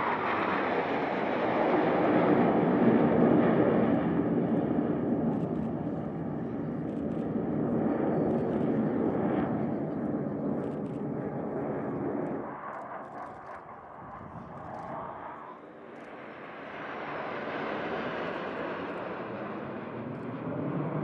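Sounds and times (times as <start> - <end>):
jet aircraft roaring overhead: 0.0 - 21.0.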